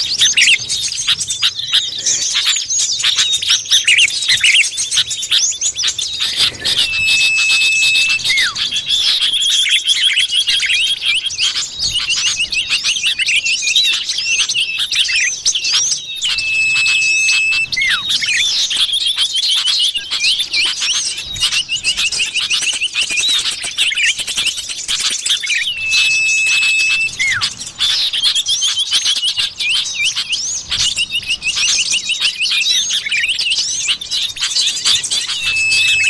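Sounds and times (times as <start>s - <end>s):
bird long level whistle: 0.0s - 36.0s
bird twittering chirps and trills: 0.0s - 36.0s.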